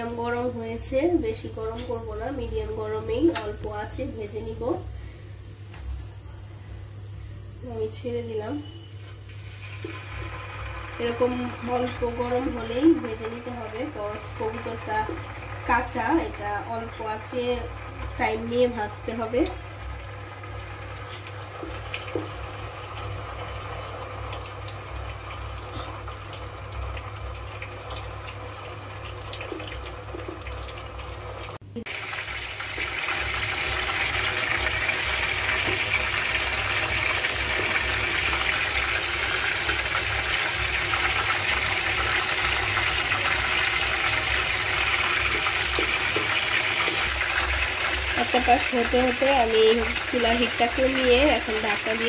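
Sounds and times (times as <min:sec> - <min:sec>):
meat sizzling in oil: 0:07.7 - 0:52.0.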